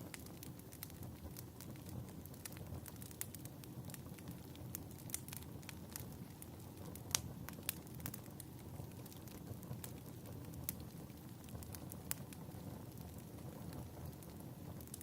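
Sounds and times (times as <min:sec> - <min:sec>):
fire popping and crackling: 0:00.0 - 0:15.0
low rumble of flames: 0:00.0 - 0:15.0.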